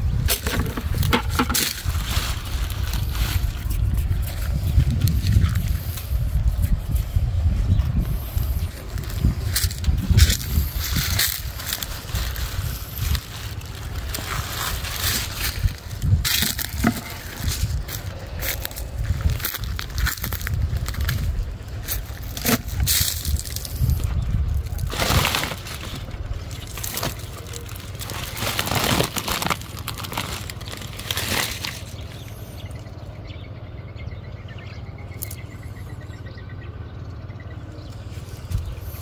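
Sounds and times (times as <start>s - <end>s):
plastic sack rustling and scraping: 0.0s - 32.6s
wind buffeting microphone: 0.0s - 39.0s.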